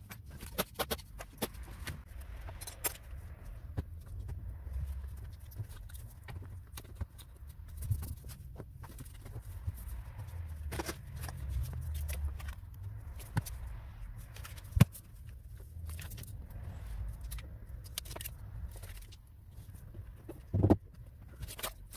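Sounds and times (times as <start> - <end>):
low rumble: 1.6 - 20.6.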